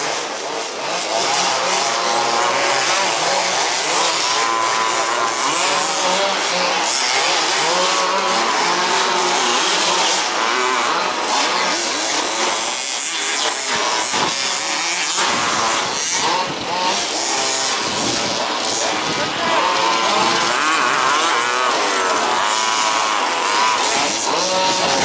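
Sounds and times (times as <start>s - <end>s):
small two-stroke engines revving: 0.0s - 25.0s.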